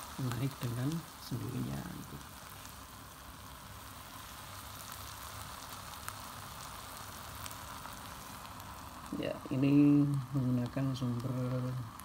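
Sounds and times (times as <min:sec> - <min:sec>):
eggs sizzling: 0:00.0 - 0:12.0
small crackles: 0:00.0 - 0:12.0.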